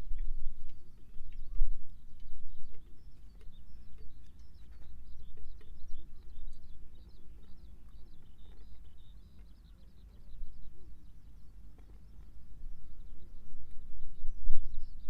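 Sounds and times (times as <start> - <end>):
small birds chirping: 0.0 - 15.0
wind rumble on microphone: 0.0 - 15.0.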